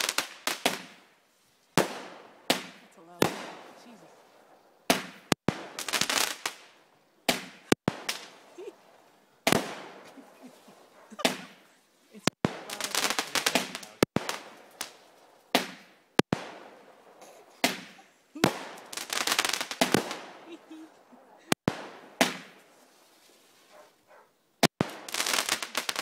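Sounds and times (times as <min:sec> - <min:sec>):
firework shells bursting: 0:00.0 - 0:23.0, 0:23.6 - 0:26.0
fireworks crackling: 0:00.0 - 0:26.0.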